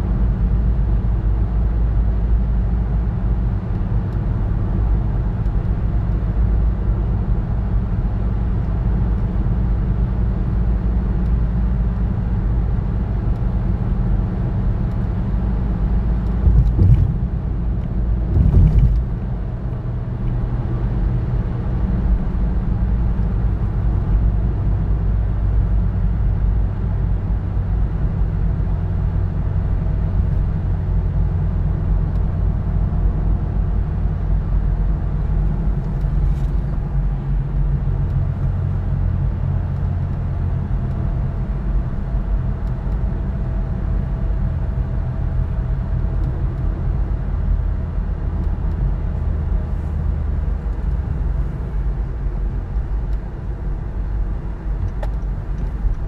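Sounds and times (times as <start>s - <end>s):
tyre and engine rumble in car: 0.0s - 56.0s.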